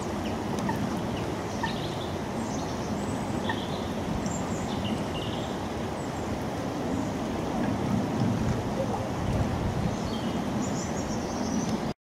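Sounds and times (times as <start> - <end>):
small songbirds chipping: 0.0 - 7.5, 9.8 - 11.9.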